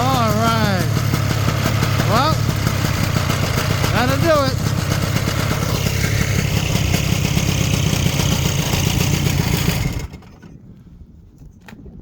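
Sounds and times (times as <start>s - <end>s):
snowmobile engine running: 0.0s - 10.3s.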